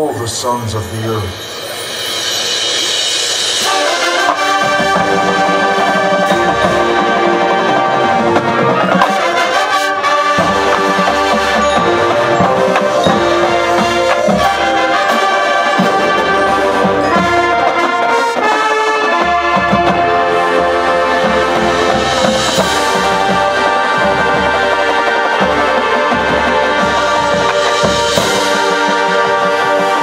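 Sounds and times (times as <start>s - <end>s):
marching drums: 0.8s - 30.0s
marching band brass chords: 1.3s - 30.0s.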